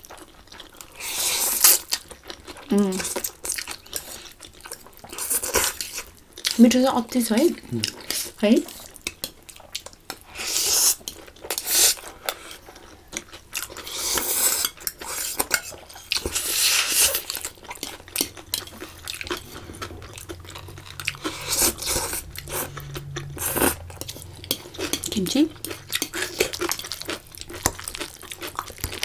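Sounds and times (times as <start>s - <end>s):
slurping and chewing noodles: 0.0s - 6.6s, 7.6s - 29.0s.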